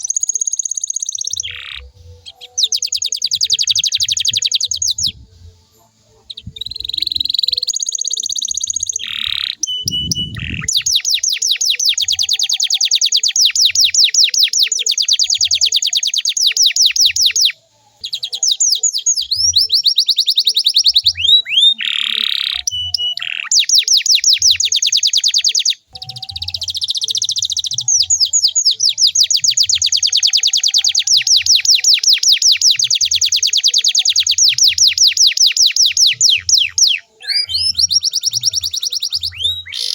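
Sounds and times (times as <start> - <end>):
canary rolling trills: 6.0 - 39.9.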